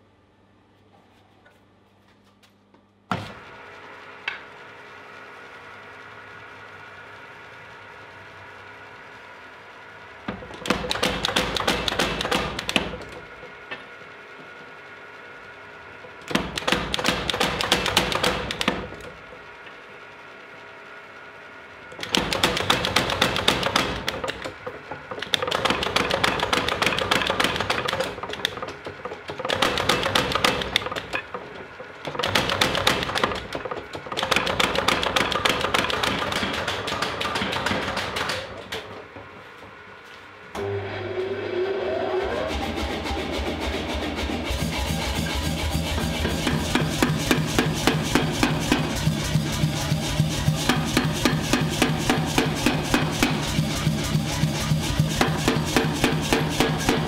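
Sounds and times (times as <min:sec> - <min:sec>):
machine humming: 0:03.1 - 0:57.0.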